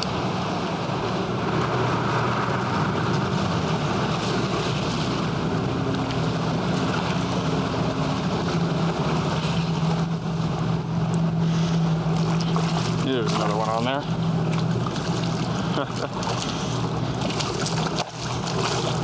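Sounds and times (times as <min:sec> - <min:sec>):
constant rushing noise: 0:00.0 - 0:19.0
low motor hum: 0:00.0 - 0:19.0.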